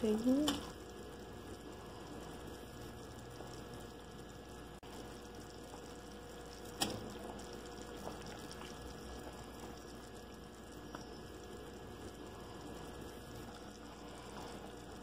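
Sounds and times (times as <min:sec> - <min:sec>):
soup bubbling in pot: 0:00.0 - 0:15.0.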